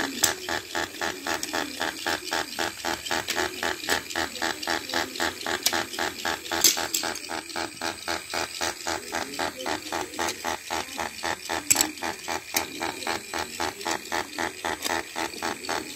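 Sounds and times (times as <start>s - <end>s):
sharp plastic clicks: 0.0s - 15.9s
toy motor and gears clattering: 0.0s - 15.9s.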